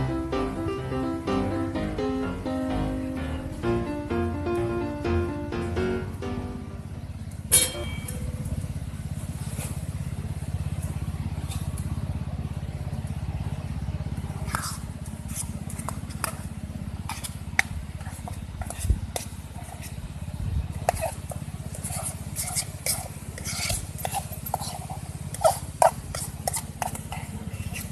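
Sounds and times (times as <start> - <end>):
engine idling: 5.1 - 27.7.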